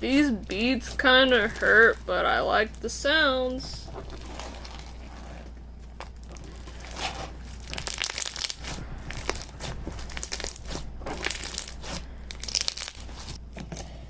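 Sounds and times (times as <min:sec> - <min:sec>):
crunchy slime crackling: 0:00.2 - 0:02.9, 0:03.8 - 0:13.4.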